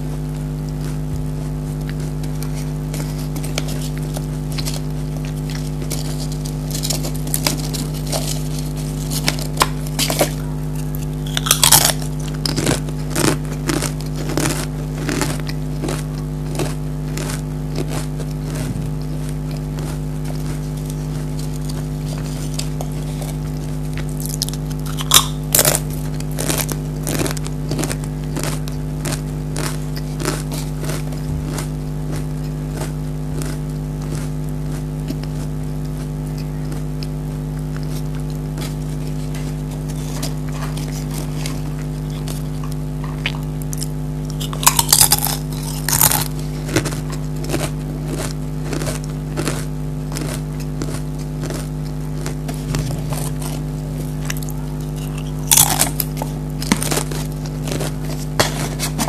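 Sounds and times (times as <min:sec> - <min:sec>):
crunching and chewing crisps: 0:00.0 - 0:59.0
steady electrical hum: 0:00.0 - 0:59.0.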